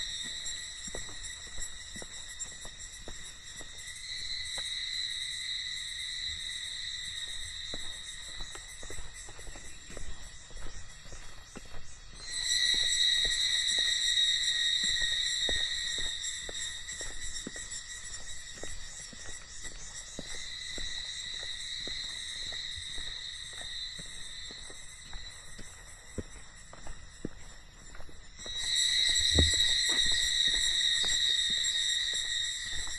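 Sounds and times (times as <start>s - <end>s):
cicadas buzzing: 0.0s - 32.9s
footsteps on a trail: 0.0s - 32.9s.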